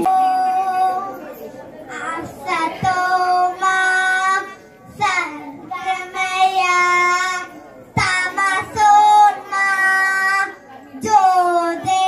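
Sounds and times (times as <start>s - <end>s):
children singing into a microphone: 0.0s - 12.0s.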